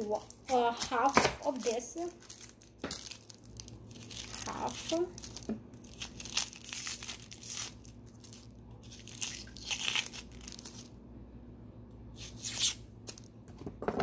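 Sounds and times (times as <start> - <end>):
onion skin tearing: 0.2 - 10.9, 12.2 - 13.3.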